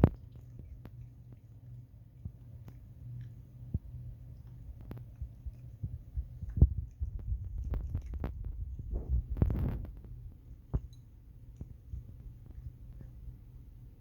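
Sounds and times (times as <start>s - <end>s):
cat crunching dry kibble: 0.0s - 13.2s
steady low hum: 0.0s - 14.0s.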